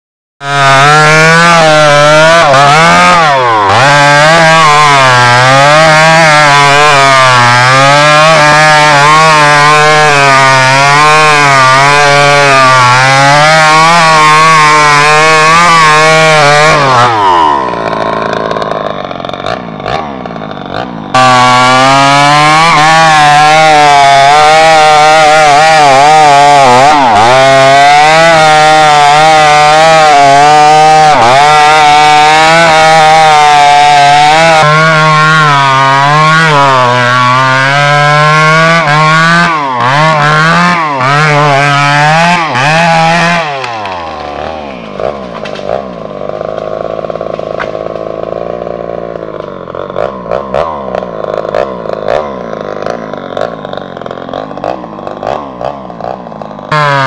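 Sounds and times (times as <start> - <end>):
chainsaw cutting wood: 0.4 - 57.0.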